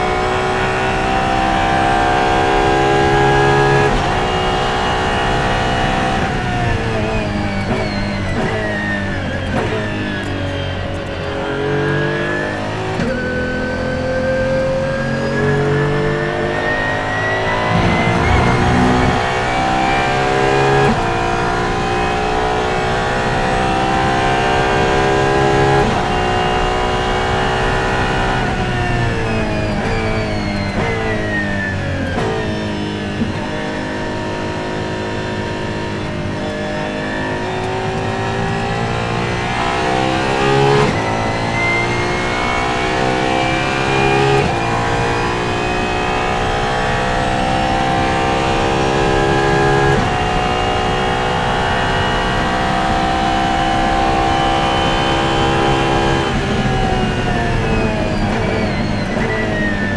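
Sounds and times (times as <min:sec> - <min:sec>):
quick gear upshifts: 0:00.0 - 0:59.9
racing car engine revving: 0:00.0 - 0:59.9.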